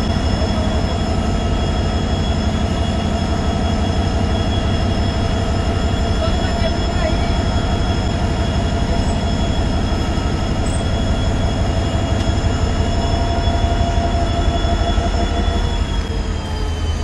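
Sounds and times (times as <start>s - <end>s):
diesel locomotive engine rumbling: 0.0s - 17.0s
high engine whine: 0.0s - 17.0s.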